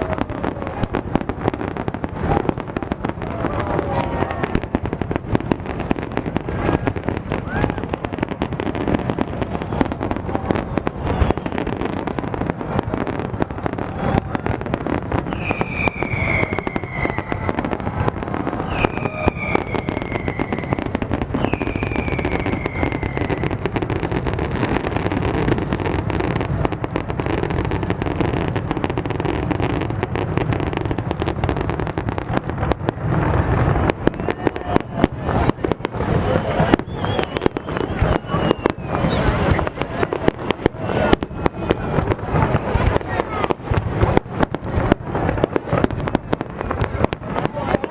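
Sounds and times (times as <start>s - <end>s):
falling fireworks whistles: 0.0s - 47.9s
fireworks bangs and crackles: 0.0s - 47.9s.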